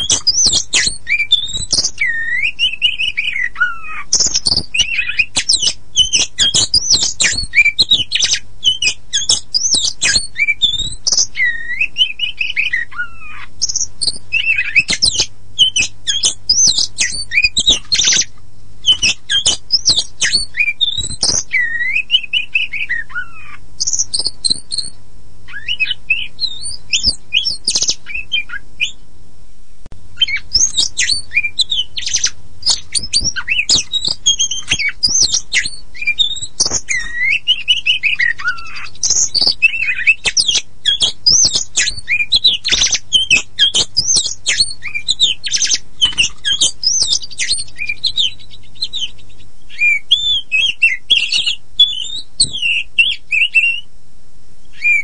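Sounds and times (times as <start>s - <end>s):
bird singing whistled song: 0.0s - 29.0s, 30.2s - 53.9s, 54.7s - 55.0s
faint low hum: 0.0s - 55.0s.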